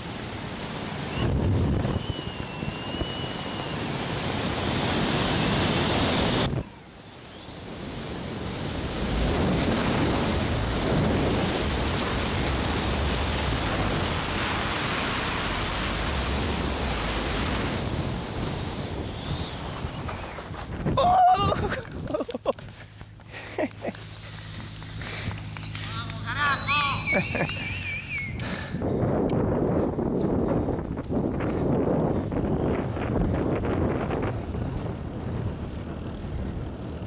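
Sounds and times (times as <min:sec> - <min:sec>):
wind buffeting microphone: 0:00.0 - 0:06.8, 0:07.4 - 0:23.3, 0:24.0 - 0:37.0.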